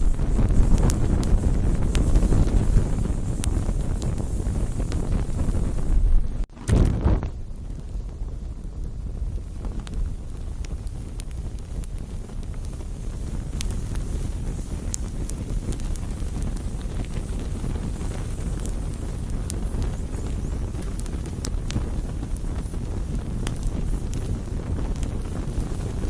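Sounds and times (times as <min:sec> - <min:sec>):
campfire crackling and popping: 0:00.0 - 0:26.0
fire low rumble: 0:00.0 - 0:26.0.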